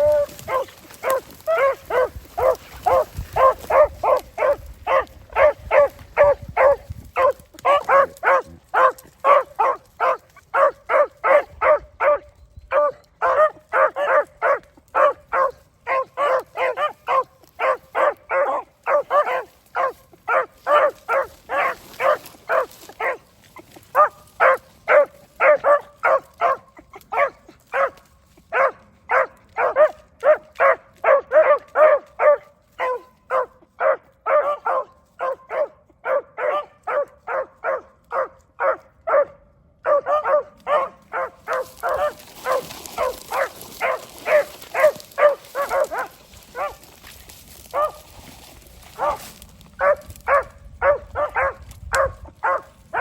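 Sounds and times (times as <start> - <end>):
hounds baying: 0.0 - 46.9, 48.9 - 53.0.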